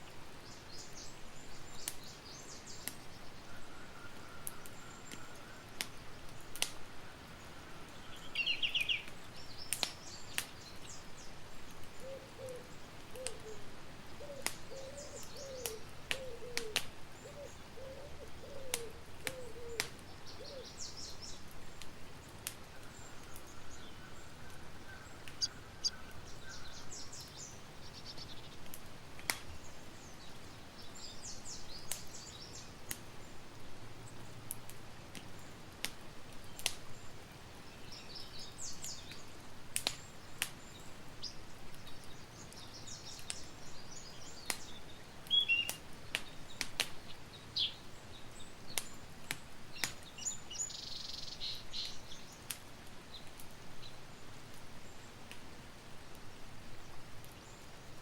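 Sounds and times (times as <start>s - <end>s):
campfire crackling: 0.0s - 58.0s
small birds chirping: 0.3s - 3.6s, 4.4s - 35.6s, 36.4s - 55.3s.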